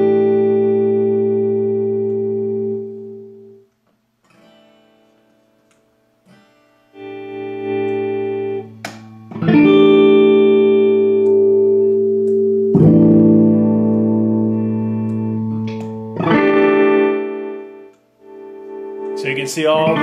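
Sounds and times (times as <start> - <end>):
clean electric guitar chords: 0.0 - 3.7, 6.9 - 20.0.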